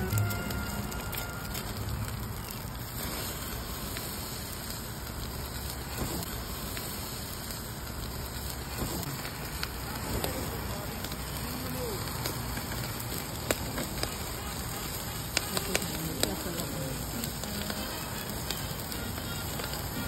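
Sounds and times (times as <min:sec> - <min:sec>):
fish sizzling on a grill: 0:00.0 - 0:20.0.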